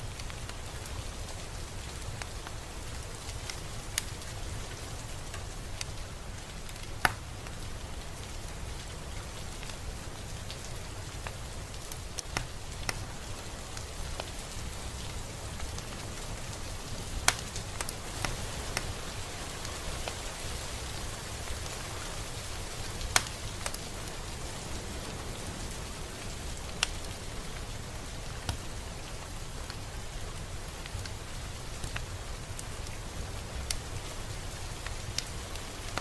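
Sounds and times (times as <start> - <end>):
close raindrops striking: 0.0 - 36.0
steady rain falling: 0.0 - 36.0.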